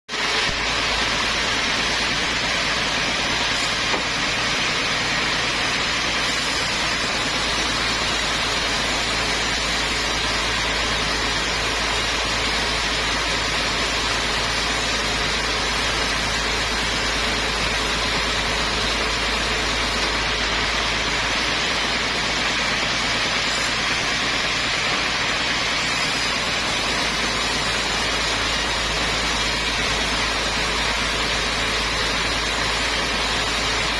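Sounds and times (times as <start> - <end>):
sawmill machinery running: 0.1 - 33.9.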